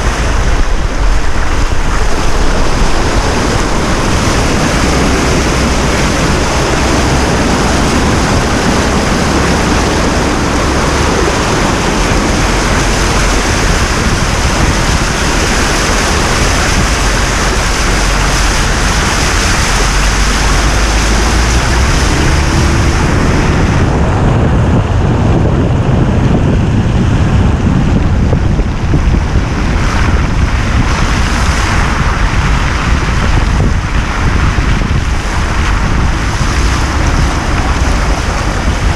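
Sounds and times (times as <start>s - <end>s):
loud rushing noise: 0.0s - 38.9s
low rumble: 0.0s - 38.9s.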